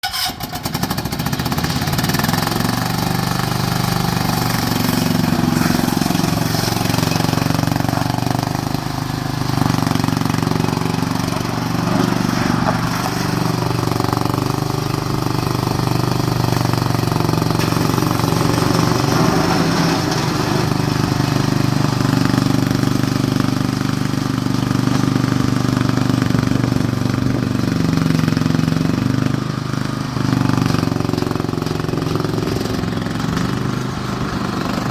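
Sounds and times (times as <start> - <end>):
skid steer engine running: 0.0 - 34.9.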